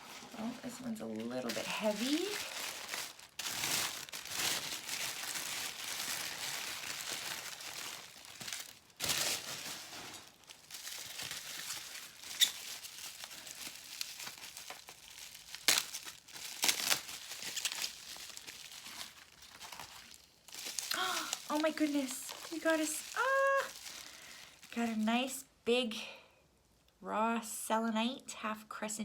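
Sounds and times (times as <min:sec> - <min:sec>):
paper wrapping crinkling: 0:00.0 - 0:25.3.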